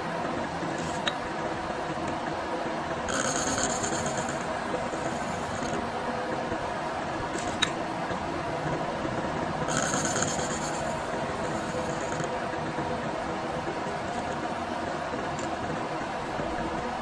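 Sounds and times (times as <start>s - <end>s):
milling machine hum: 0.0s - 17.0s.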